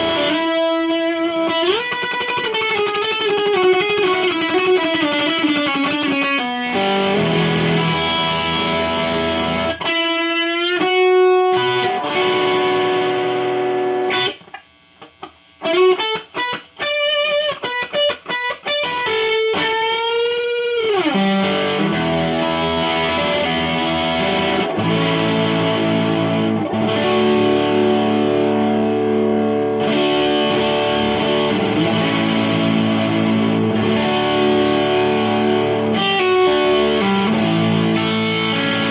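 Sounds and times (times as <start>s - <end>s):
overdriven electric guitar lead: 0.0s - 38.9s.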